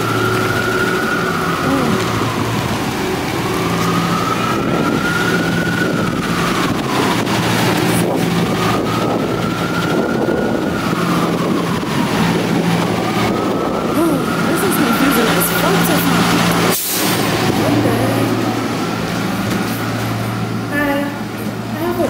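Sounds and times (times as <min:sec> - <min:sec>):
city street traffic: 0:00.0 - 0:22.0
emergency vehicle siren wailing: 0:00.0 - 0:22.0.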